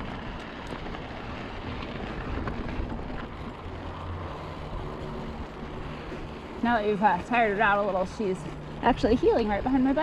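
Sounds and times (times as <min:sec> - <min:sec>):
bike tyres rolling on gravel: 0:00.0 - 0:10.0.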